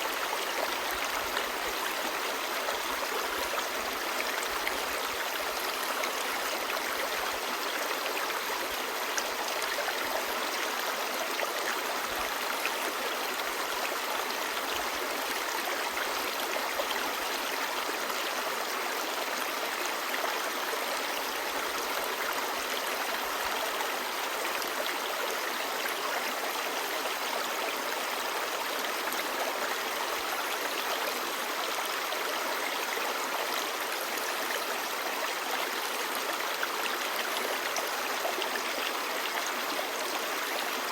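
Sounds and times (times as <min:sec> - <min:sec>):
stream babbling over stones: 0:00.1 - 0:40.9.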